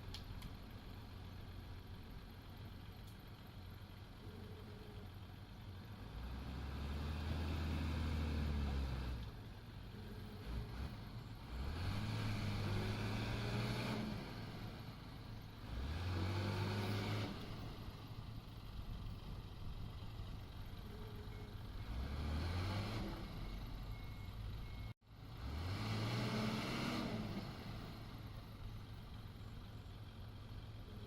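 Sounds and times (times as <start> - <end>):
bulldozer diesel engine revving: 4.1 - 31.0.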